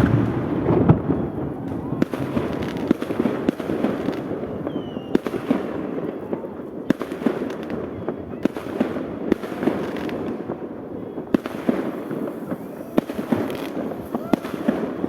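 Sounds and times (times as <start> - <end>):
aerial fireworks bursting with bangs: 0.0 - 15.0
crackle of fireworks: 0.0 - 15.0.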